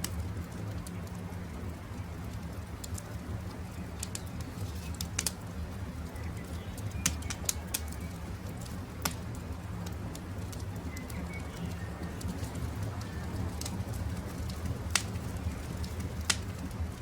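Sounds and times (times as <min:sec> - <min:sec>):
campfire crackling: 0:00.0 - 0:17.0
faint birdsong: 0:00.5 - 0:16.3.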